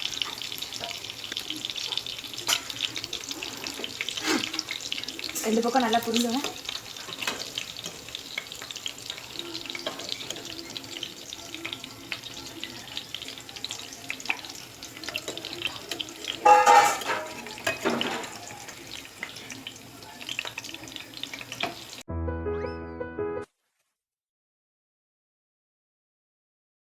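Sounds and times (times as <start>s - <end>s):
egg frying in hot oil: 0.0s - 22.1s.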